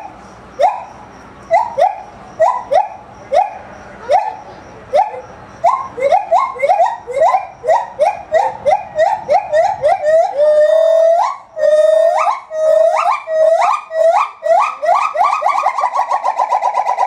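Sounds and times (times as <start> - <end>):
gibbon whooping: 0.0 - 17.0.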